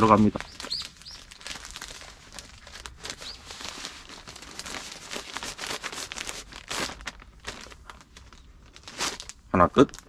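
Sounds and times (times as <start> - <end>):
fabric crinkling and rustling: 0.0 - 10.0.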